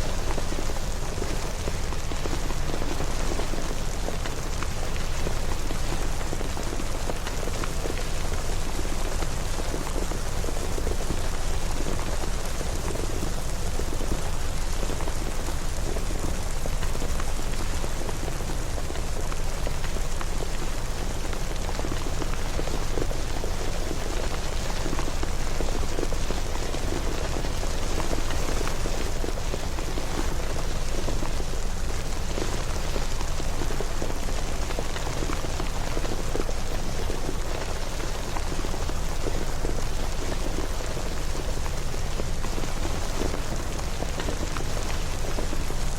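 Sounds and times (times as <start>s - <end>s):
steady rain pattering: 0.0s - 45.9s.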